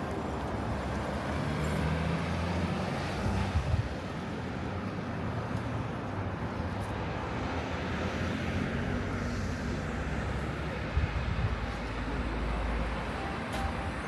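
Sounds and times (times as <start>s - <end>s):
vehicle traffic rumble: 0.0s - 14.0s.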